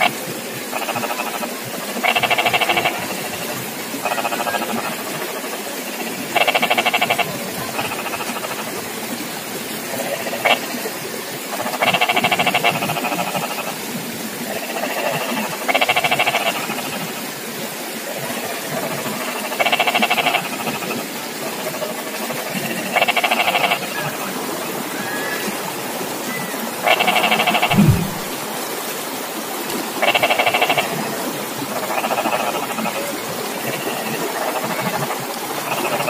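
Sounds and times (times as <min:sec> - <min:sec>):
frog chorus: 0:00.0 - 0:28.3, 0:30.0 - 0:36.0
frogs pulsed trills: 0:00.7 - 0:08.9, 0:09.6 - 0:17.3, 0:18.2 - 0:25.3, 0:26.5 - 0:28.3, 0:30.0 - 0:31.1, 0:31.7 - 0:36.0.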